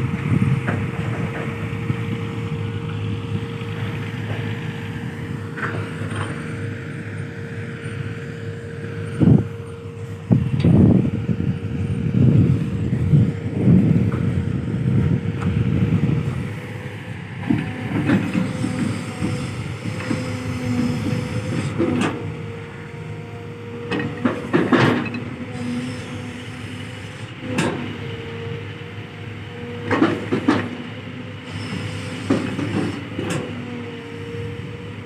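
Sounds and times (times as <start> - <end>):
excavator engine and hydraulics: 0.0 - 35.0.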